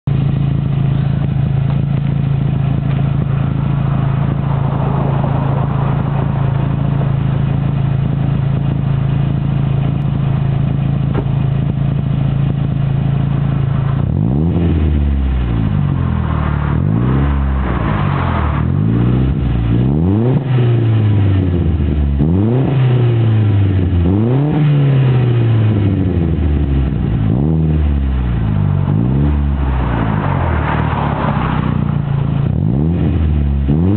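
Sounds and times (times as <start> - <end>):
car engine idling: 0.0 - 33.9
engine revving in blips: 0.6 - 33.9.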